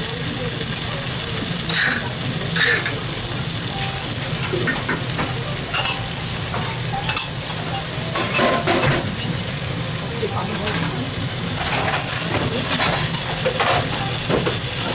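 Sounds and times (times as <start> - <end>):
meat sizzling with pops: 0.0 - 14.9.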